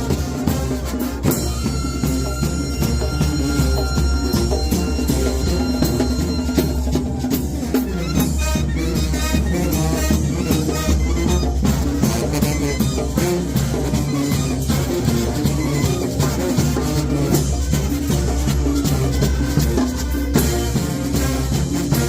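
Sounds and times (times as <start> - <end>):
brass band playing: 0.0 - 22.0
drums and cymbals beat: 0.0 - 22.0
tuba bass line: 0.0 - 22.0.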